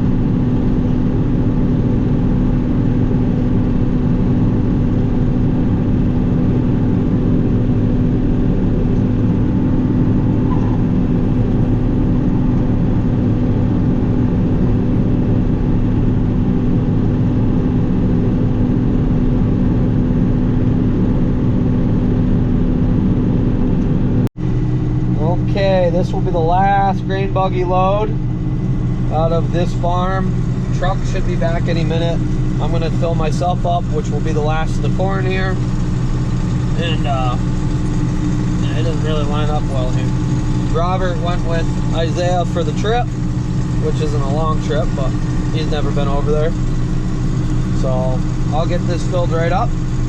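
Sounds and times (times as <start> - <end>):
combine harvester engine drone: 0.0 - 50.0.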